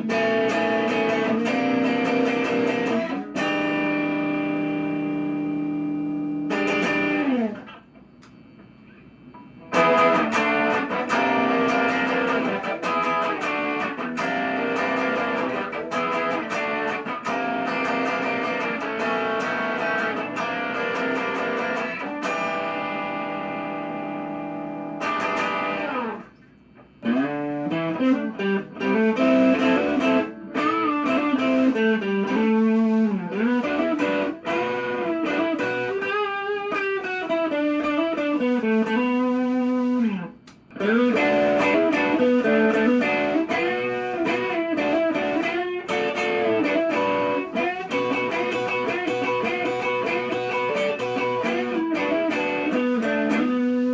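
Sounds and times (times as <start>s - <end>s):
electric guitar vibrato notes: 0.0s - 7.8s, 8.8s - 53.9s
electric guitar chords strummed: 0.0s - 53.9s.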